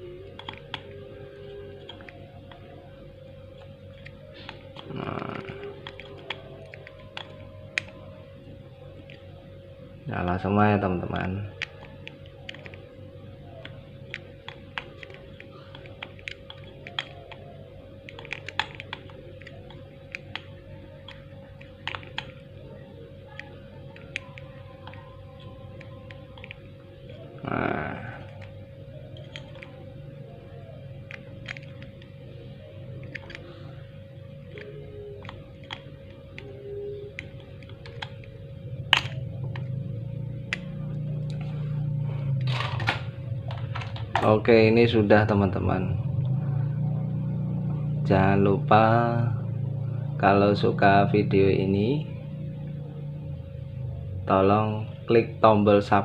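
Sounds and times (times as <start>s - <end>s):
faint hum: 0.0s - 56.0s.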